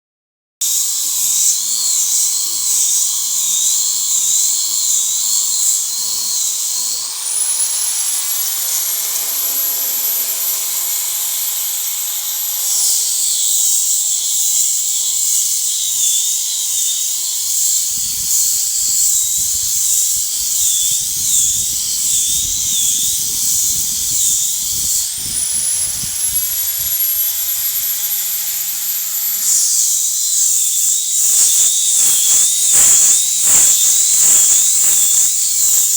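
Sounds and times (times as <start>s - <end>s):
electric grinder sanding wood: 0.6s - 35.9s.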